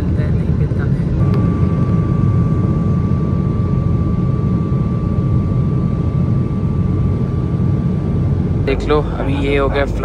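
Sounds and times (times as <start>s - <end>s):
airplane cabin engine rumble: 0.0s - 10.0s
faint constant whine: 0.0s - 10.0s.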